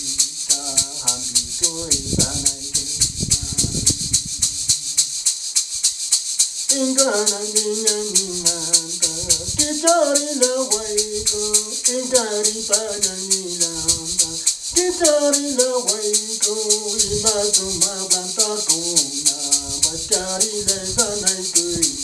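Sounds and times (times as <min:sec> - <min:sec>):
person singing a chant: 0:00.0 - 0:05.2, 0:06.7 - 0:22.0
handheld rattle shaking: 0:00.0 - 0:22.0.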